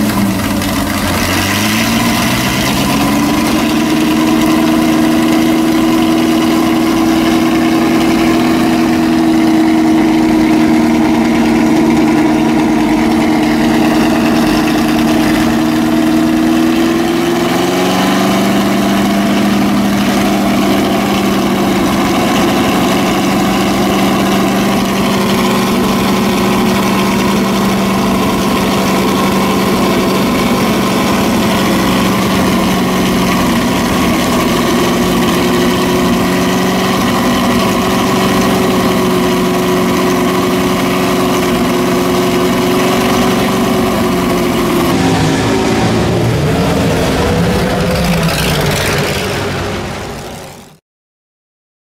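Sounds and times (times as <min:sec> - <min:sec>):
car engine idling: 0:00.0 - 0:50.8.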